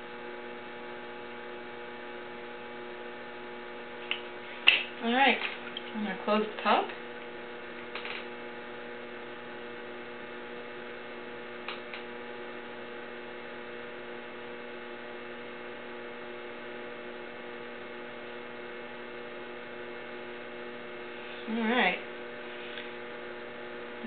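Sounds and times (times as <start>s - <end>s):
potter's wheel humming: 0.0s - 24.0s.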